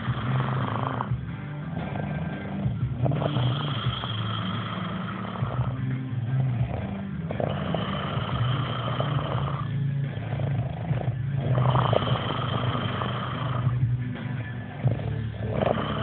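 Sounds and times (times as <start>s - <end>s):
loud buzzy snoring: 0.0s - 16.0s.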